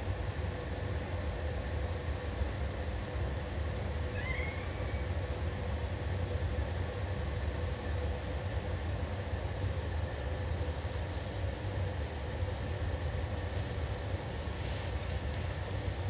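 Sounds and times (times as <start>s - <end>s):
faint constant hum: 0.0s - 16.0s.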